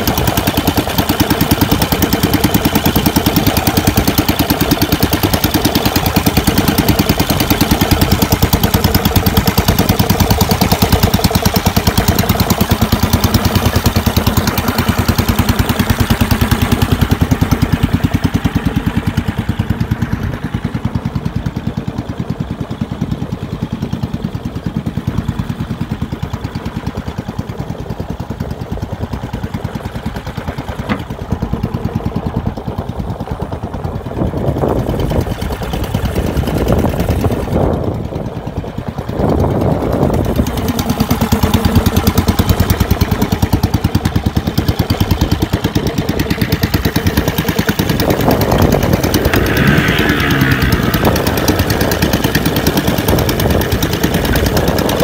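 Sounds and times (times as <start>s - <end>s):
boat engine chugging: 0.0s - 55.0s.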